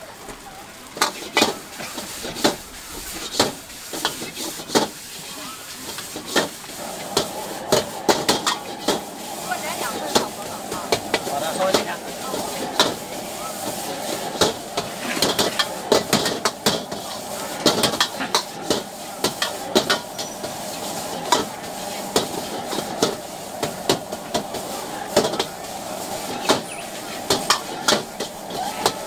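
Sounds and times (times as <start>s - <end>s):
sizzle of frying: 0.0s - 29.0s
metal utensils clanking on a wok: 0.9s - 29.0s.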